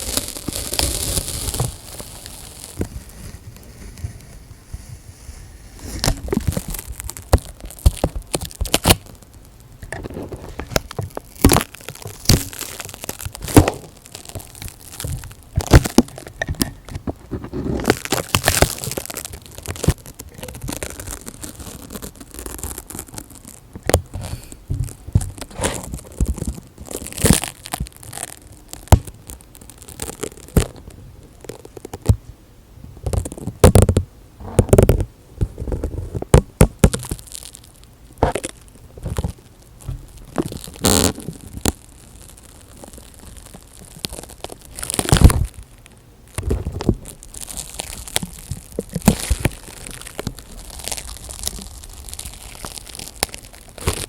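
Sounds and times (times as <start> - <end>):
crackles and rustles at microphone: 0.0 - 54.0.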